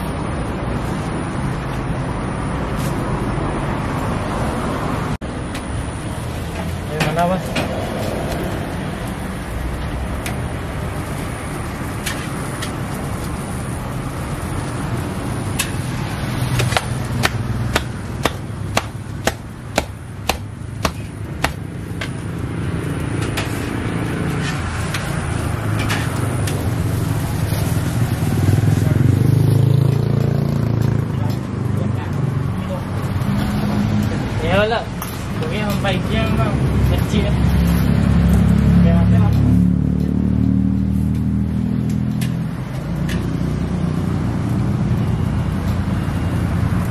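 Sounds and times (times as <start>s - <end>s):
low rumble of traffic: 0.0s - 46.9s.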